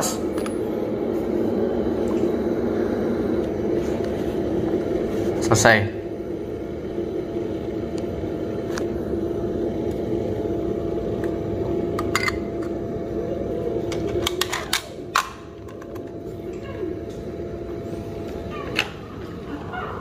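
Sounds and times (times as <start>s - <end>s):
background hum with held tone: 0.0s - 20.0s.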